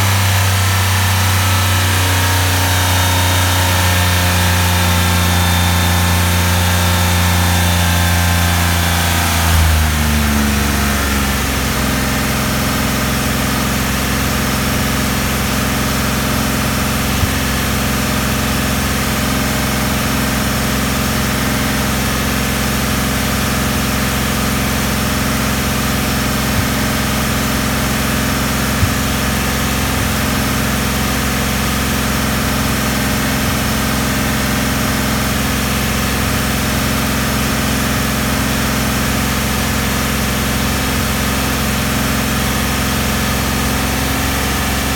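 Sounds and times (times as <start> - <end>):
car engine idling: 0.1 - 44.5.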